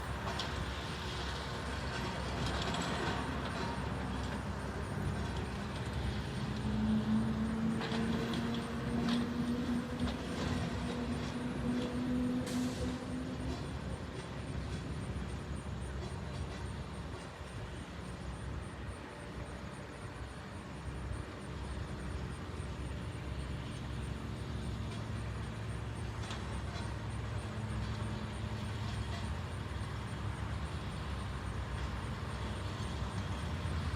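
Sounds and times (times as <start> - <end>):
construction engine rumbling: 0.0 - 33.9.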